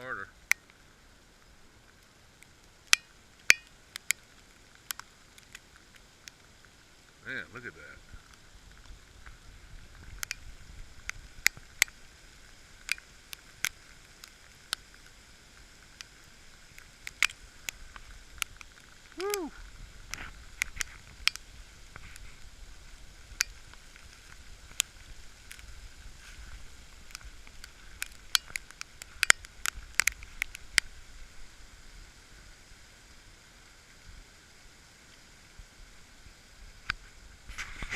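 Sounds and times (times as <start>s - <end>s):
snow and ice pellets ticking: 0.0s - 32.2s.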